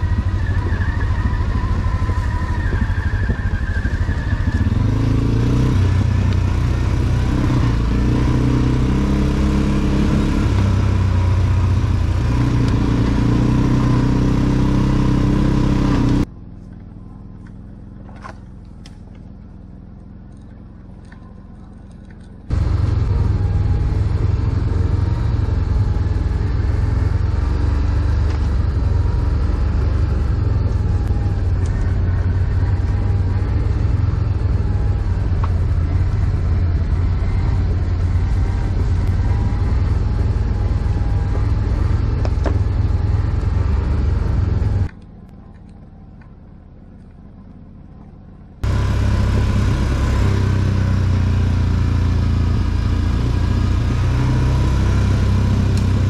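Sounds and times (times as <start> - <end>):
atv engine drone: 0.0 - 56.0.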